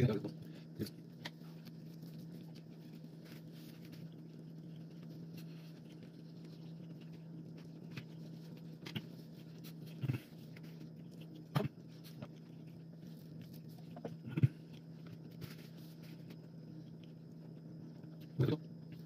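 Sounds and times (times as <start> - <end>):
low hum: 0.0 - 19.0
person chewing food: 0.4 - 19.0.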